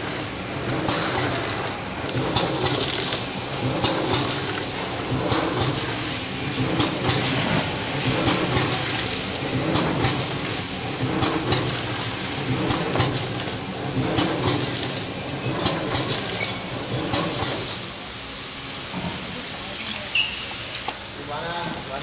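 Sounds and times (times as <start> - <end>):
packaging machine clatter: 0.0 - 18.0.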